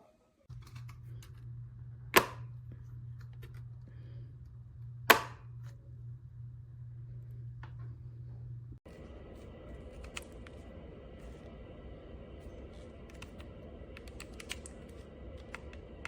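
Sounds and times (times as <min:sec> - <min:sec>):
low steady hum: 0:00.5 - 0:16.0.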